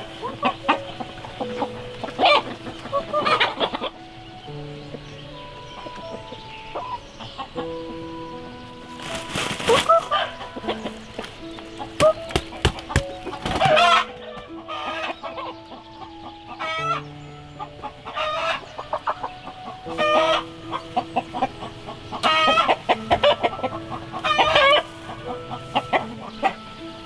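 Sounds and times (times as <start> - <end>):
chickens clucking: 0.0 - 27.0
soft background music: 0.0 - 27.0.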